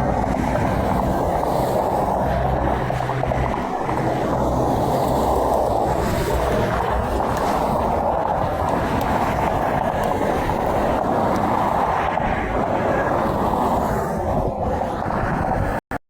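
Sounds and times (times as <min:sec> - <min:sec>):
highway traffic passing: 0:00.0 - 0:14.8.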